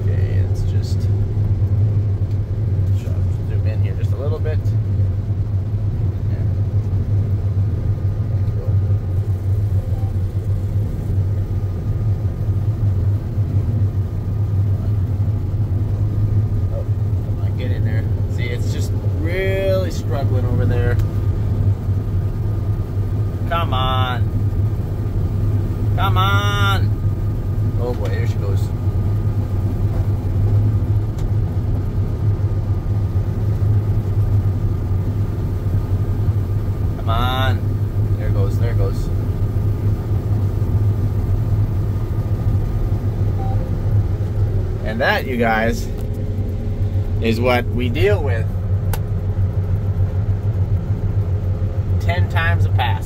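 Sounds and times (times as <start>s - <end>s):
combine harvester droning: 0.0s - 53.0s.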